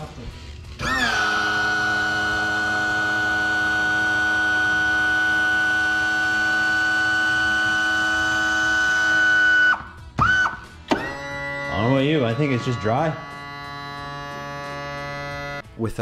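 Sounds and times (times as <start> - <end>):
tilt motor high whine: 0.0 - 15.8.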